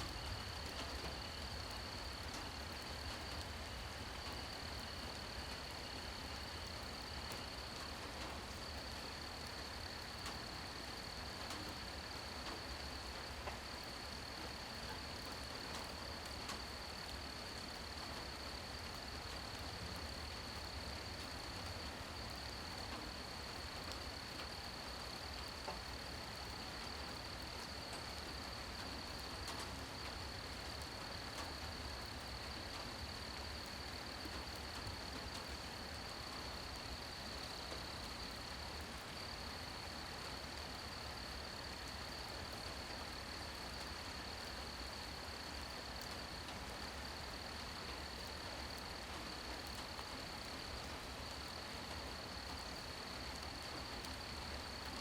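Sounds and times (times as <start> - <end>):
insects trilling: 0.0 - 55.0
rain hiss: 0.0 - 55.0.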